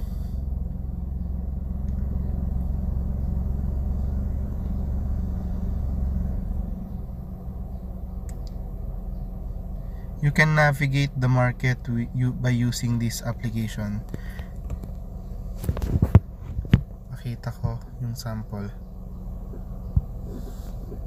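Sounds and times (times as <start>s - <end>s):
car engine rumble inside cabin: 0.0s - 21.0s
constant low hum: 0.0s - 21.0s.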